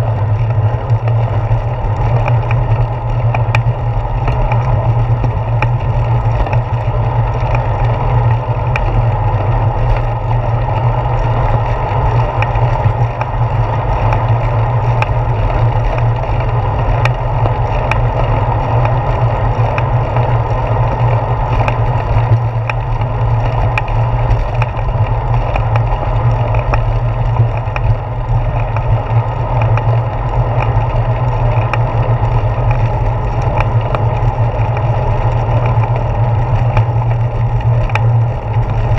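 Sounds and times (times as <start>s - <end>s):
bicycle road vibration: 0.0s - 38.9s
wind rumble: 0.0s - 38.9s.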